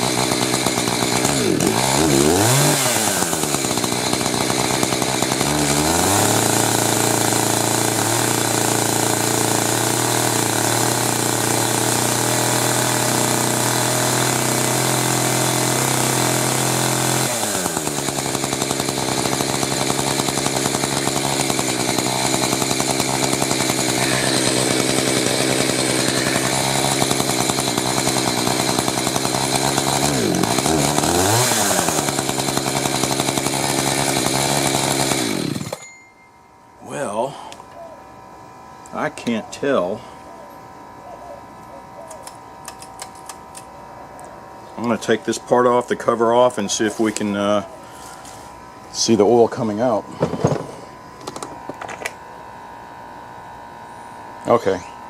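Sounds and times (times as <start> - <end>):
chainsaw engine running: 0.0 - 35.9, 44.5 - 55.0.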